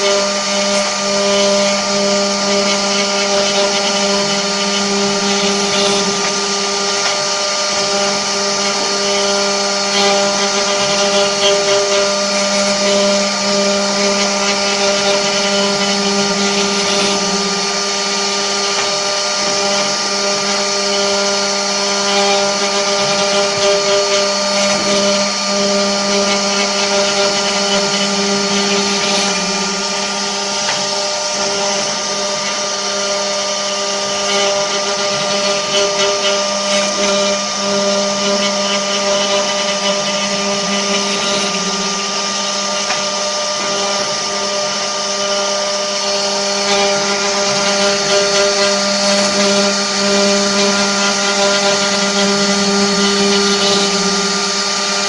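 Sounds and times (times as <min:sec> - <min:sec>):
wood router spindles whining: 0:00.0 - 0:55.0.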